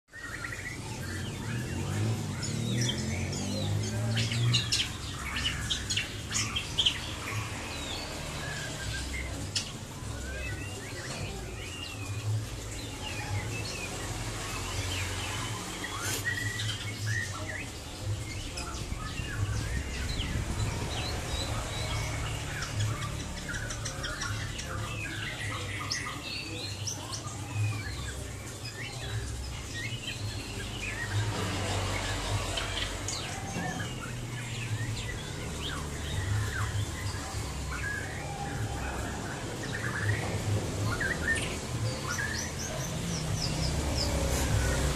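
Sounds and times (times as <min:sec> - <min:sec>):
songbird singing whistles and chirps: 0:00.1 - 0:44.9.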